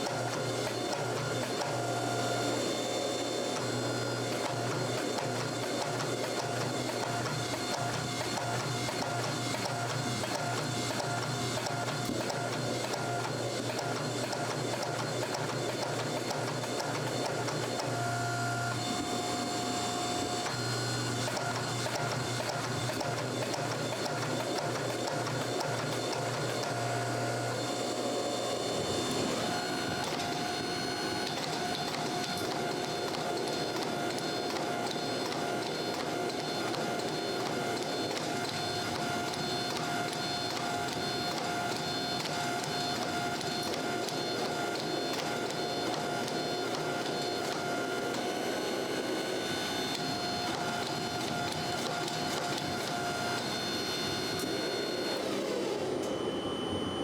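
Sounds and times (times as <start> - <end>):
machine whining: 0.0 - 57.0.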